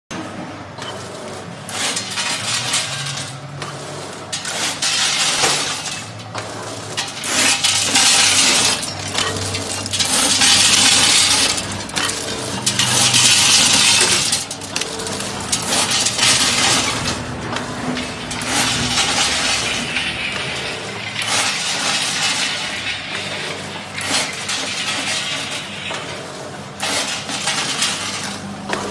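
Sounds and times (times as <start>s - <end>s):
banana chips clattering in machine: 1.7s - 28.9s
low machine hum: 5.6s - 28.9s.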